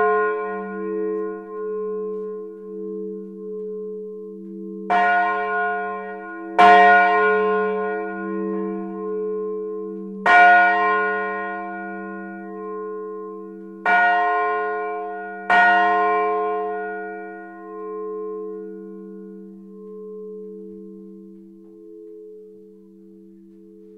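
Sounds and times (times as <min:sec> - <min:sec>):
church bells ringing: 0:00.0 - 0:23.9.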